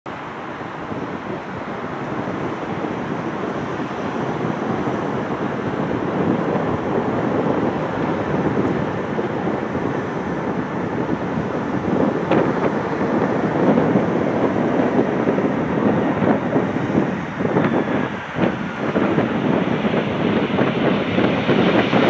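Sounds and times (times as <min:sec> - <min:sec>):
airliner jet engines rumbling: 0:00.1 - 0:22.0
wind buffeting microphone: 0:00.1 - 0:22.0.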